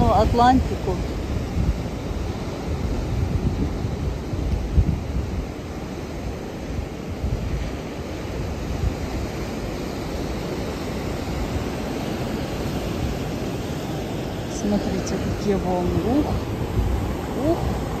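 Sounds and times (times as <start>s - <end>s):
waves breaking over rocks: 0.0s - 18.0s
wind rumbling on microphone: 0.0s - 18.0s.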